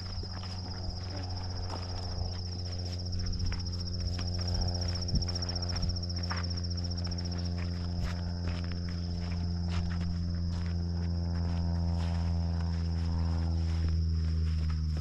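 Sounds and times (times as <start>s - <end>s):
crickets chirping: 0.0s - 15.0s
footsteps on a path: 0.0s - 15.0s
steady low hum: 0.0s - 15.0s.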